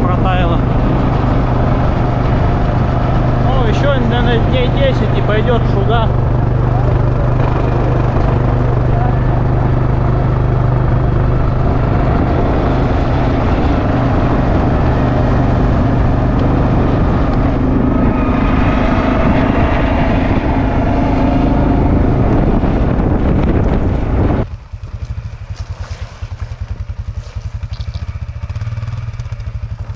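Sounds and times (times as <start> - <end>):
quad bike engine running: 0.0 - 29.9.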